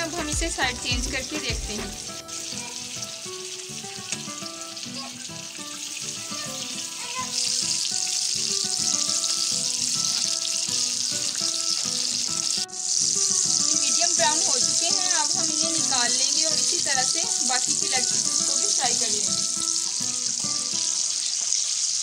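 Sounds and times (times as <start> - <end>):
oil sizzling while deep-frying: 0.0 - 22.0.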